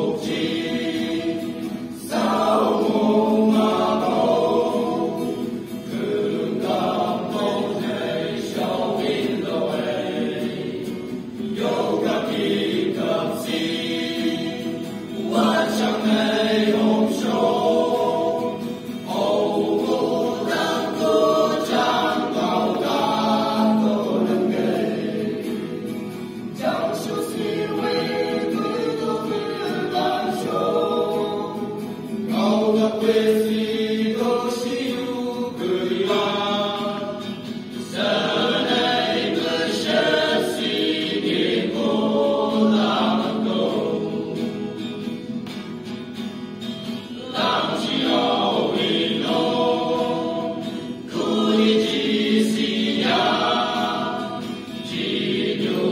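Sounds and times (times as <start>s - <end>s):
male choir singing folk song: 0.0s - 55.9s.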